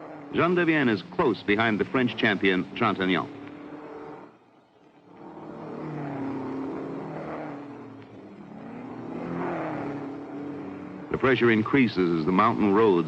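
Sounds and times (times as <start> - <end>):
racing car engine at high revs: 0.0 - 13.0.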